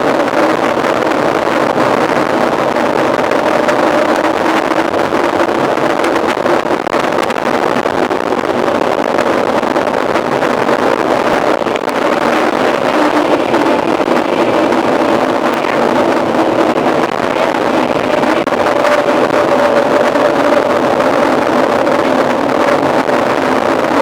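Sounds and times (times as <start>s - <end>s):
wind rushing on microphone: 0.0s - 24.0s.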